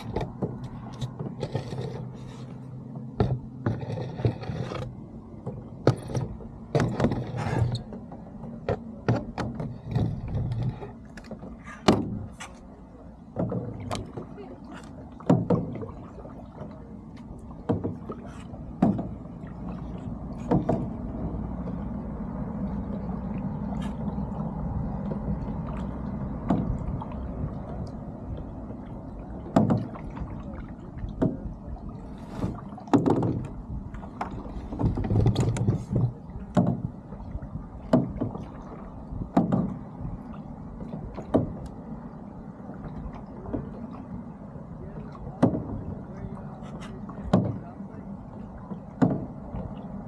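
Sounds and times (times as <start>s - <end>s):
boat motor rumbling: 0.0s - 50.0s
water slapping against hull: 0.0s - 50.0s.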